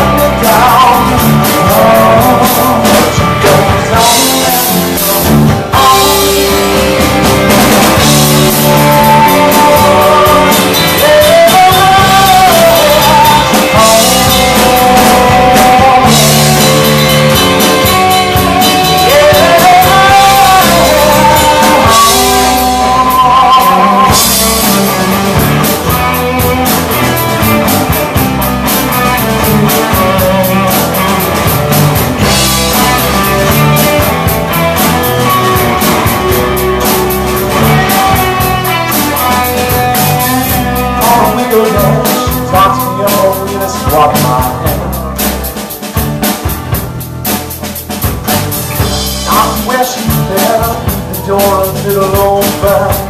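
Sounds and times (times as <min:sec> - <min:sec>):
bending guitar melody: 0:00.0 - 0:53.0
live rock band playing: 0:00.0 - 0:53.0.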